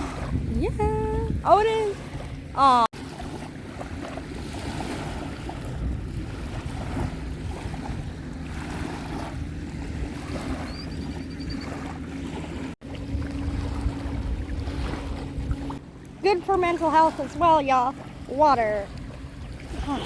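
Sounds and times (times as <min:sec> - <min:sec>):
waves washing: 0:00.0 - 0:20.0
wind buffeting microphone: 0:00.0 - 0:20.0.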